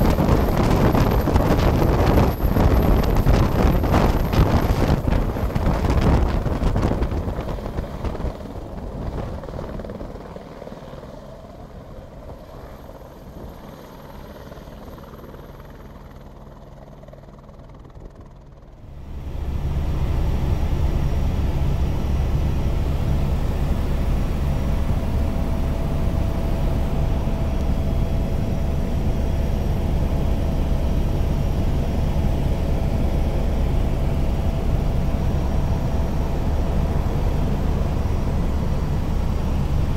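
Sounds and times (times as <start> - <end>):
helicopter lifting off: 0.0 - 39.9
helicopter turbine drone from cabin: 0.0 - 39.9.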